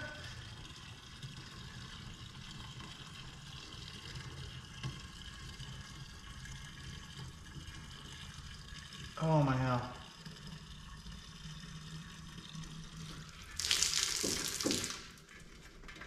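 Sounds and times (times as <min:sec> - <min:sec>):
gasoline pouring and splashing: 0:00.0 - 0:16.0.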